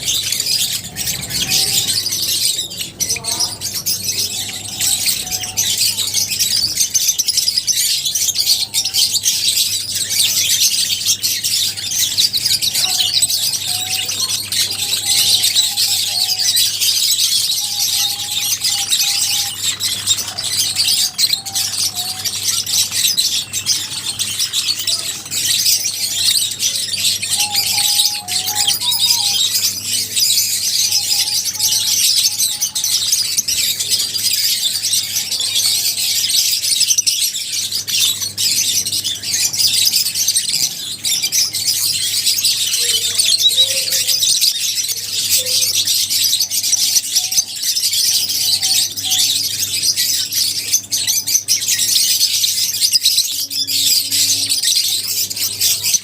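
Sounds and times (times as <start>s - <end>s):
flock of lovebirds chattering: 0.0s - 56.0s.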